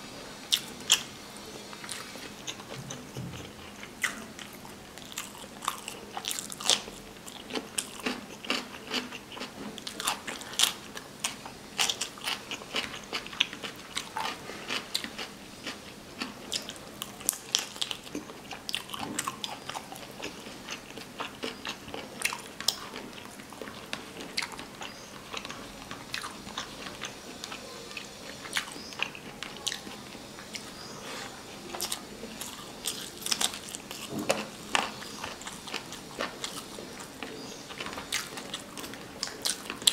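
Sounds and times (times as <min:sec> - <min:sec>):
chewing and crunching food: 0:00.5 - 0:39.9.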